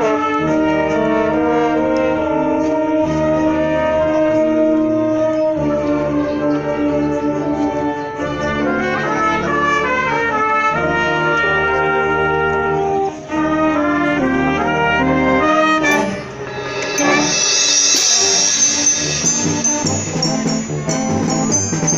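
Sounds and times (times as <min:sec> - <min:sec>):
trumpets and trombones chords: 0:00.0 - 0:21.9
wind band playing: 0:00.0 - 0:21.9.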